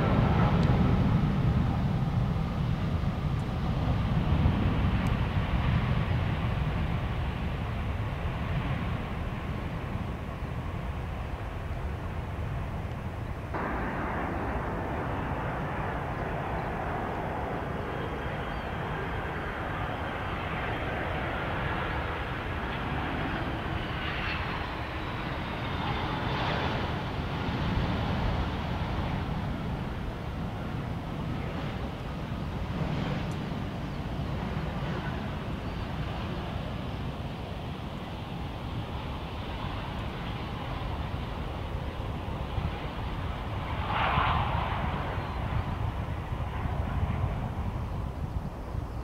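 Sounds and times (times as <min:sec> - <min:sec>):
aircraft engines rumbling: 0:00.0 - 0:49.0
faint engine whine: 0:00.0 - 0:49.0.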